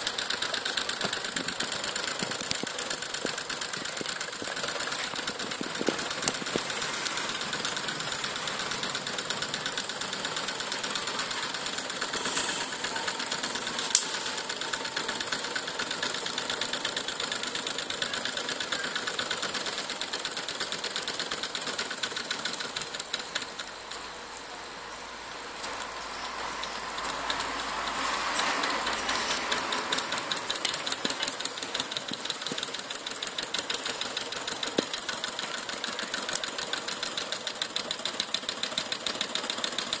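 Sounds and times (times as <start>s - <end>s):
small engine flywheel clicking: 0.0s - 24.1s, 25.6s - 40.0s.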